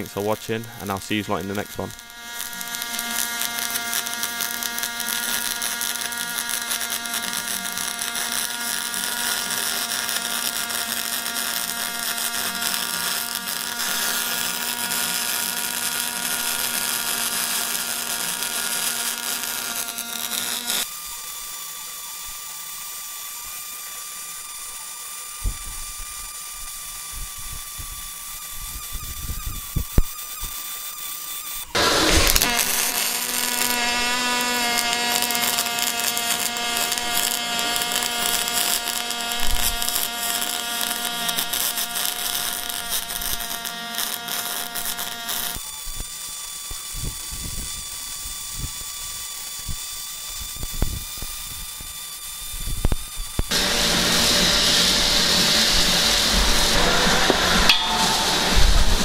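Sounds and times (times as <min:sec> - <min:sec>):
steady hissing: 0:00.0 - 0:21.6, 0:28.5 - 0:59.0
welding buzz with crackling: 0:00.0 - 0:59.0.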